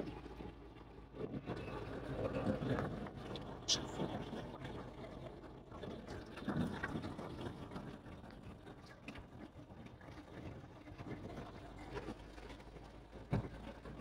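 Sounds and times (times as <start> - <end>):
vehicle rumbling on gravel road: 0.0 - 14.0.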